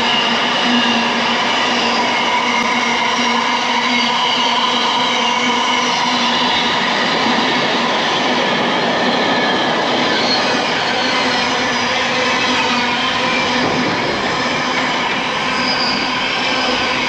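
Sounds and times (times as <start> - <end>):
train running on tracks: 0.0 - 17.0.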